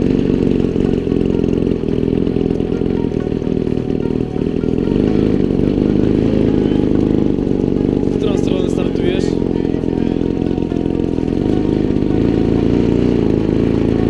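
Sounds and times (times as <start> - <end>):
model aeroplane engine running: 0.0 - 14.0.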